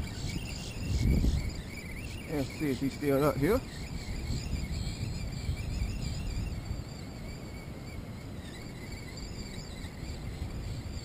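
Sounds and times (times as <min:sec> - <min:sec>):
faint high-pitched whine: 0:00.0 - 0:11.0
wind rumbling on microphone: 0:00.0 - 0:11.0.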